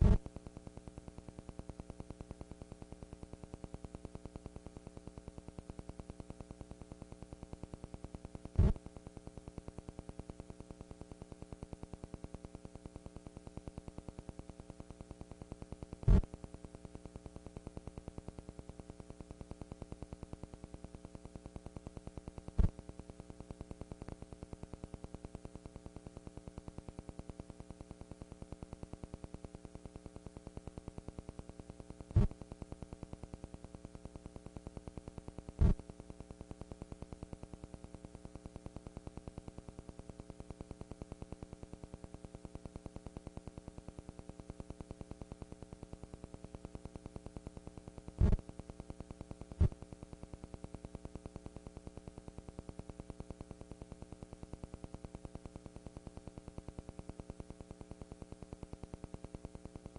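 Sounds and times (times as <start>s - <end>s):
pulsing electrical hum with static: 0.0s - 59.9s.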